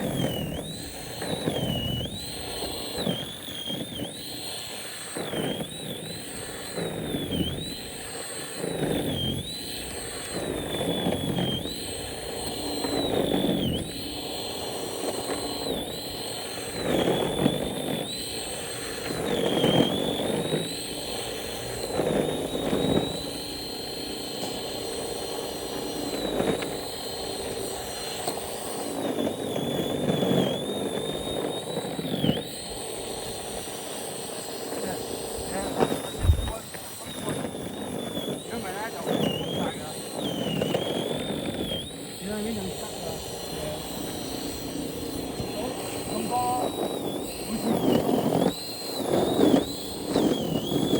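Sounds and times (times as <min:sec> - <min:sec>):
snowblower motor whining: 0:00.0 - 0:50.9.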